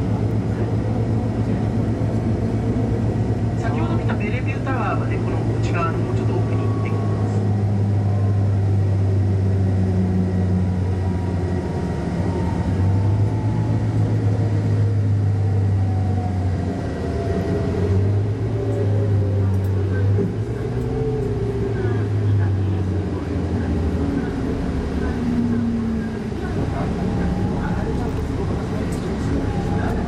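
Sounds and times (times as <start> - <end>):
coach engine drone: 0.0 - 30.0
road noise: 0.0 - 30.0.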